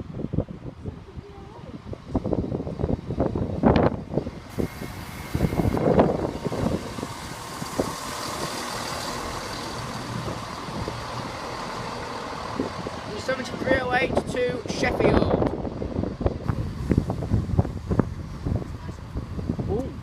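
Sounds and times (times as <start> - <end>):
train diesel engines running: 1.6 - 19.7.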